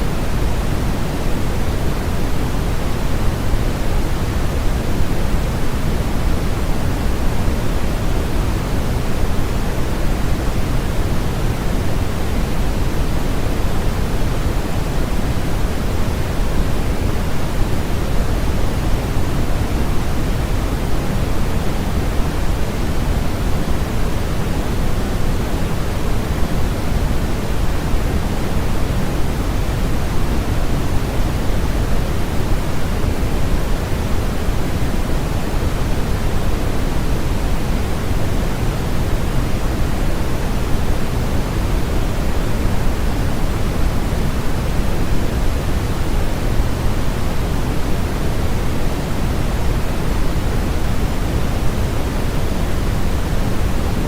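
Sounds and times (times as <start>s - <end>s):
steady synthetic noise hiss: 0.0s - 54.0s.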